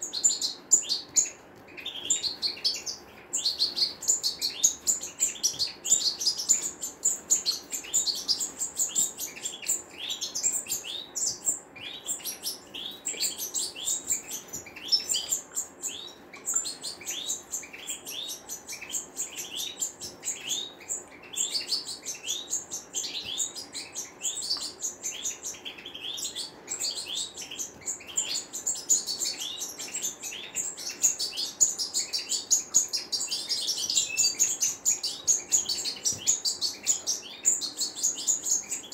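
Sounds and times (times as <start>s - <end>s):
goldfinches twittering: 0.0s - 38.9s.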